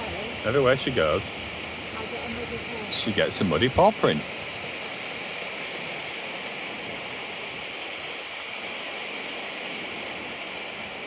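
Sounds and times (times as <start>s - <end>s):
water pouring rushing: 0.0s - 11.0s.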